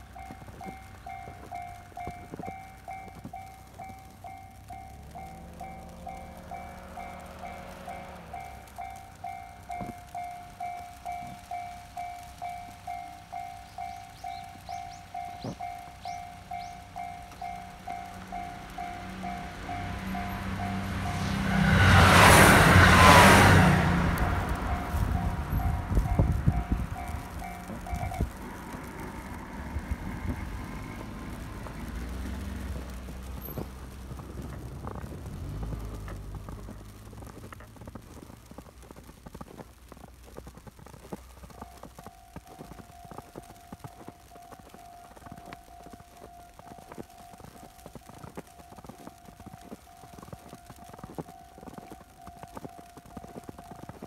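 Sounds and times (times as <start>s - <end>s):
level crossing warning bell: 0.0s - 37.0s, 41.1s - 54.0s
car engine rumble passing: 0.0s - 53.6s.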